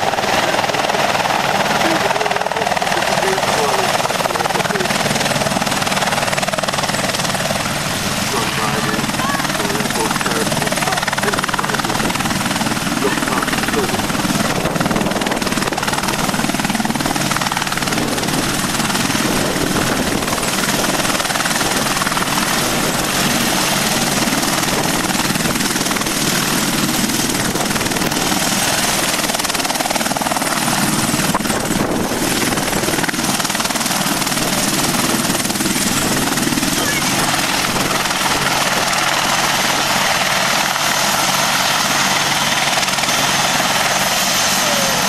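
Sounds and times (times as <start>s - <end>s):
helicopter engines and rotor running: 0.0s - 45.0s.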